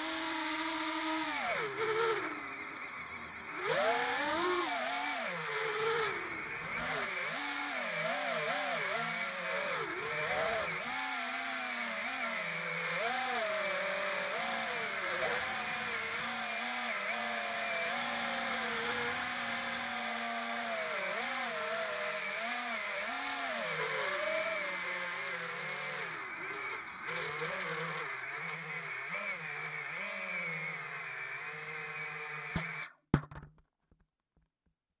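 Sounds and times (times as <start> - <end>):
drone motors whining: 0.0 - 33.0.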